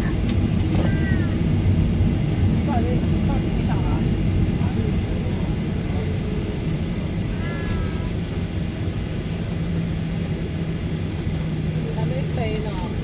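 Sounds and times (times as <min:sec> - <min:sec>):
jet engine drone in cabin: 0:00.0 - 0:13.0
low rumble and hum: 0:00.0 - 0:13.0.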